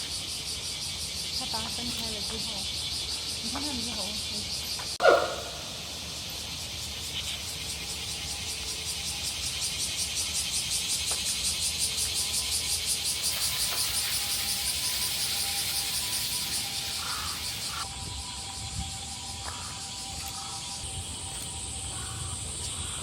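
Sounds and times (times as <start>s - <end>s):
cicadas pulsing chorus: 0.0s - 23.0s.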